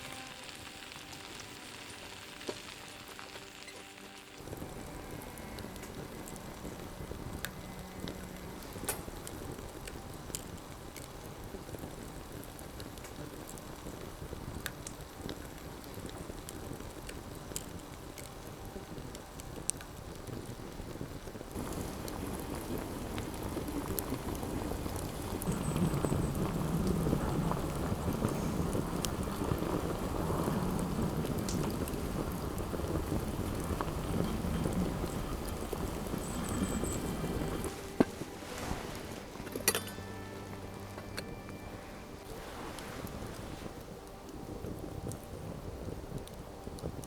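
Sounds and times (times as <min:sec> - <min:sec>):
rain falling: 0:00.0 - 0:47.0.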